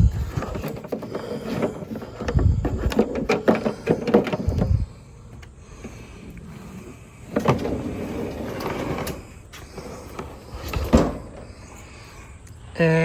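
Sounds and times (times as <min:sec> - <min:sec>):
fridge sliding and rumbling: 0:00.0 - 0:12.0.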